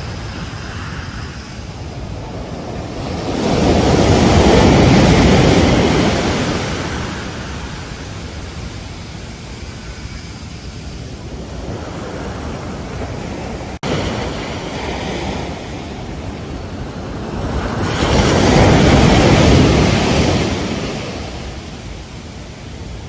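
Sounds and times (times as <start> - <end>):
wave breaking: 0.0 - 8.6, 11.1 - 22.7
ocean surf washing: 0.0 - 23.0.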